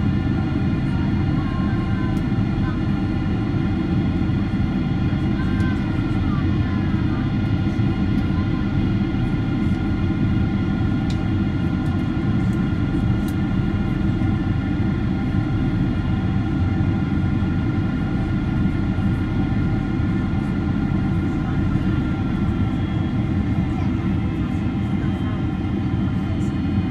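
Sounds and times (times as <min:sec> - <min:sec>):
airplane cabin rumble: 0:00.0 - 0:26.9.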